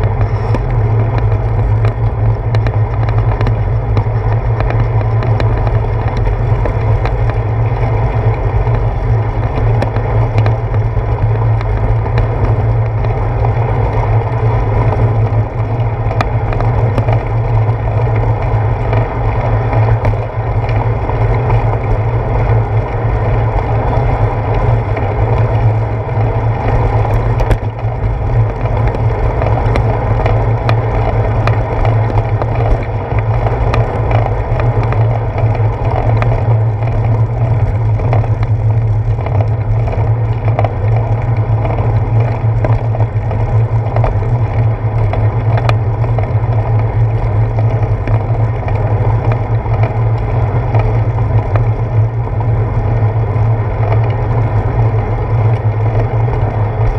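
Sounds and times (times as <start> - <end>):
small clicks and knocks: 0.0 - 23.0, 24.0 - 52.1
tyre noise: 0.0 - 56.9
wind and road rumble: 0.0 - 56.9.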